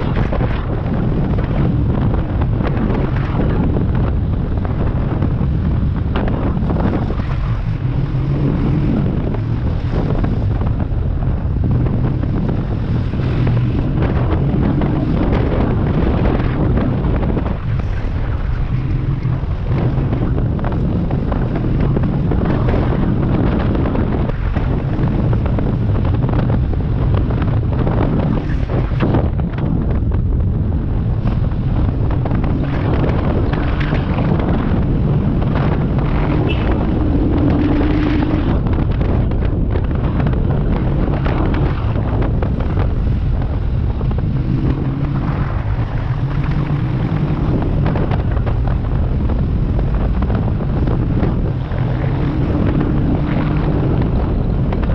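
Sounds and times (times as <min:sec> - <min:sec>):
motorcycle engine running: 0:00.0 - 0:54.9
wind buffeting microphone: 0:00.0 - 0:54.9.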